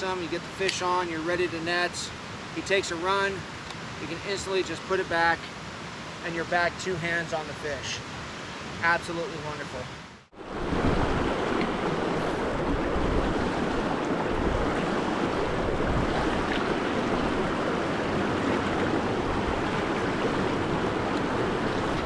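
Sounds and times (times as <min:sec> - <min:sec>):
river current rushing: 0:00.0 - 0:22.0.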